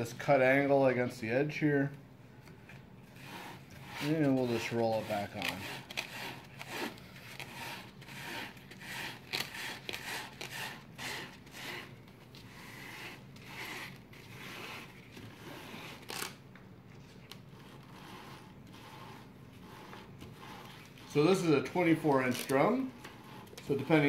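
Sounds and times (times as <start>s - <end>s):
sandpaper scraping and rubbing: 3.1s - 16.3s, 17.6s - 24.0s.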